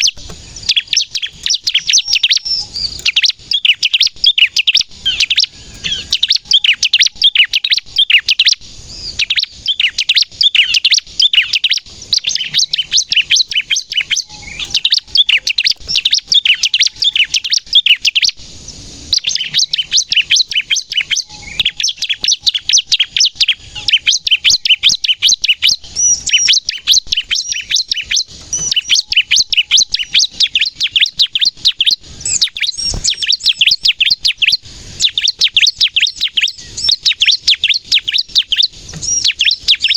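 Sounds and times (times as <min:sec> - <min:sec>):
bird singing high sharp chirps: 0:00.0 - 0:39.9.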